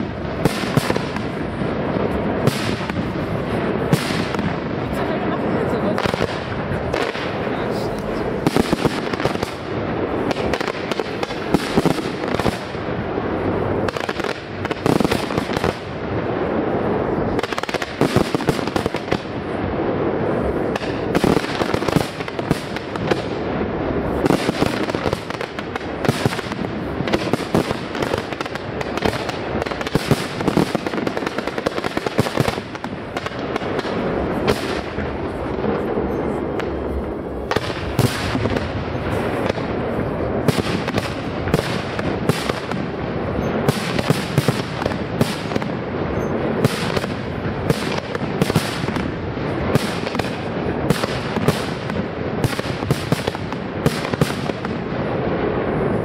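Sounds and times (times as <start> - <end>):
fireworks crackle and rumble: 0.0 - 56.0.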